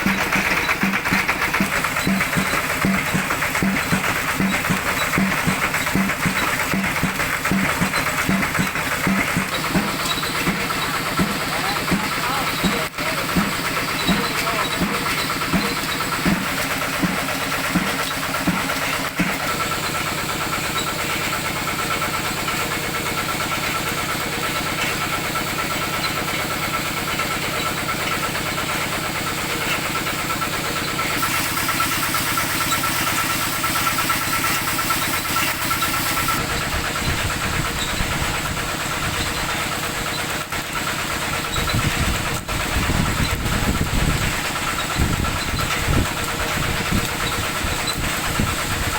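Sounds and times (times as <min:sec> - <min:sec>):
tractor engine chugging: 0:00.0 - 0:48.9.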